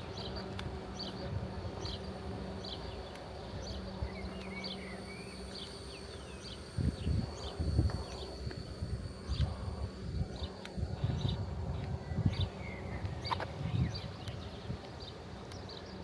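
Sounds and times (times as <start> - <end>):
bee buzzing: 0.0 - 16.0.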